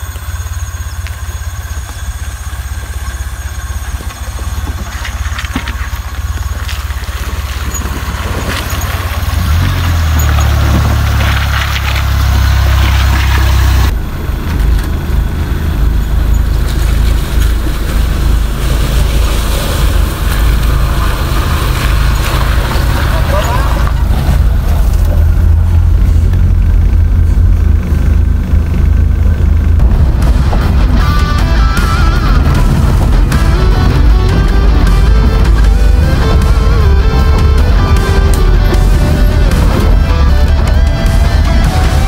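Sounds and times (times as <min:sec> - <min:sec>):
car engine rumbling: 0:00.0 - 0:42.0
wheels rushing through water: 0:00.0 - 0:42.0.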